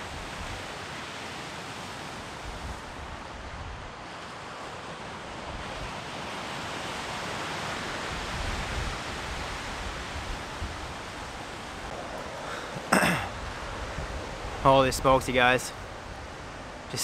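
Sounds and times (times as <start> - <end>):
waves breaking on rocky beach: 0.0 - 17.0.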